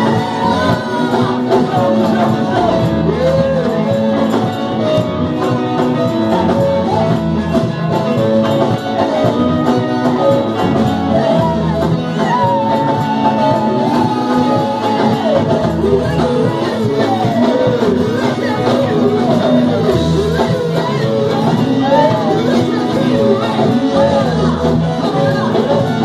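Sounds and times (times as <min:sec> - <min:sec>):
person singing: 0:00.0 - 0:26.0
worship band playing: 0:00.0 - 0:26.0.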